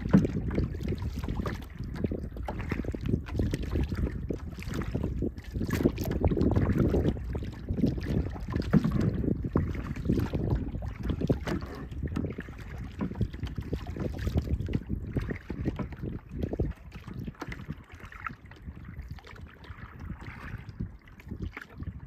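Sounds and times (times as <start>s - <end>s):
water splashing and lapping: 0.0s - 22.0s
wind buffeting microphone: 0.0s - 22.0s.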